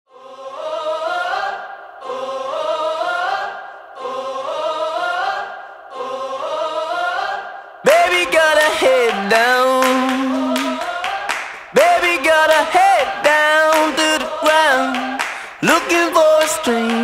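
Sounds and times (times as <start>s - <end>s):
choral phrase rising in pitch: 0.1s - 17.0s
song with singing: 0.1s - 17.0s.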